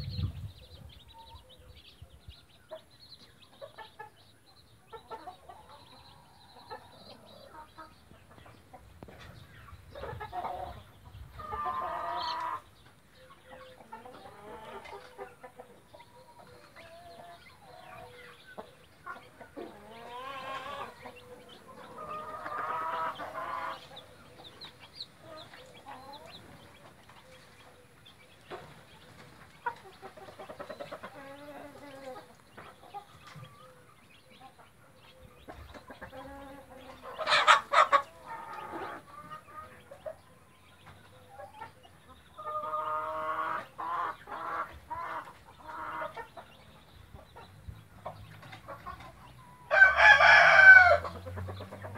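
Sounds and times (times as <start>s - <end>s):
chicks peeping: 0.0s - 51.9s
hen clucking: 0.0s - 51.9s.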